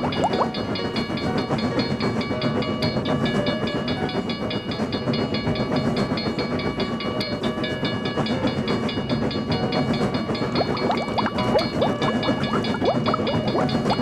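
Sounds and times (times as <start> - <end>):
railroad crossing alarm ringing: 0.0 - 2.6, 3.3 - 14.0
passing train rumble: 0.0 - 14.0.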